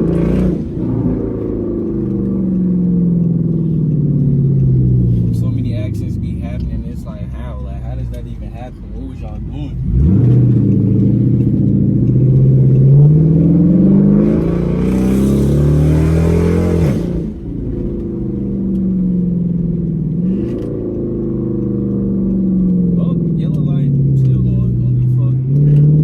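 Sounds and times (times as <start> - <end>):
car engine accelerating: 0.0 - 26.0
loud exhaust rush: 0.0 - 26.0.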